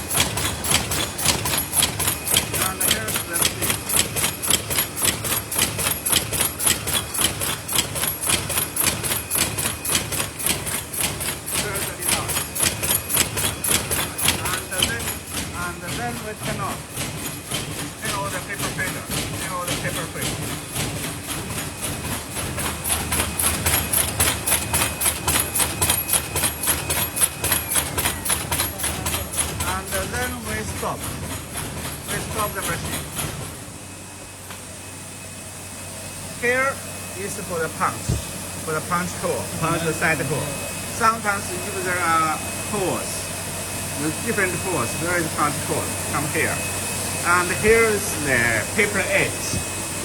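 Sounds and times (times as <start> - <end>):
machine clattering in rhythm: 0.0 - 34.4, 36.4 - 50.0.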